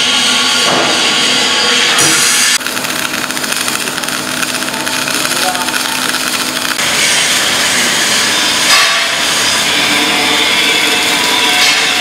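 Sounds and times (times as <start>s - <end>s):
metal-cutting bandsaw running: 0.0s - 12.0s.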